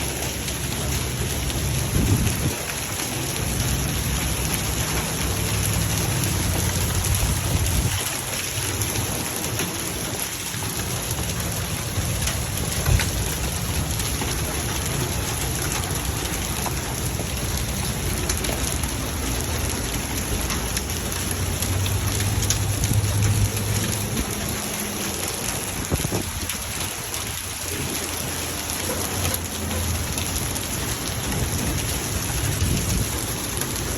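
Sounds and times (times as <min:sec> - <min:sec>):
hail and rain clattering: 0:00.0 - 0:33.9.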